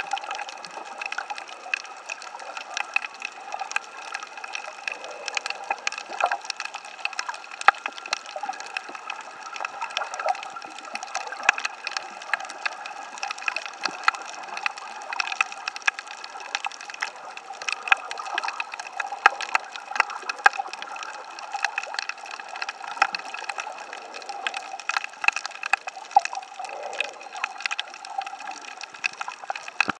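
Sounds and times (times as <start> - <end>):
steady underwater hiss: 0.0 - 29.9
underwater clicks and crackles: 0.0 - 30.0.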